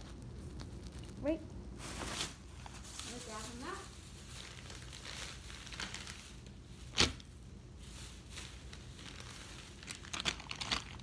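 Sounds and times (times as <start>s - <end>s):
faint rustling and handling: 0.0s - 11.0s.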